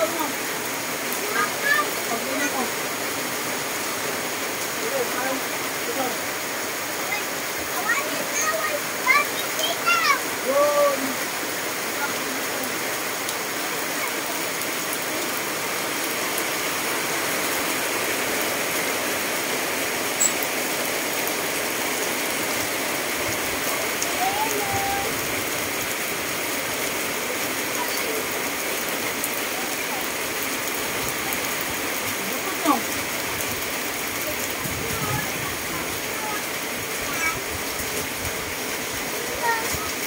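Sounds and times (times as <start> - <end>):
heavy rain on leaves and puddles: 0.0 - 40.0.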